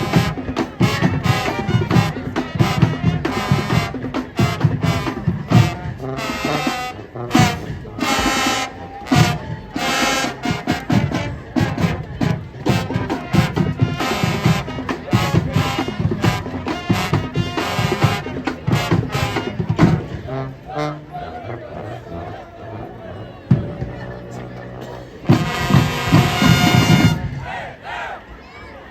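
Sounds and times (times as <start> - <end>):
marching drums: 0.0 - 20.5, 25.2 - 28.2
brass chords: 0.0 - 28.2.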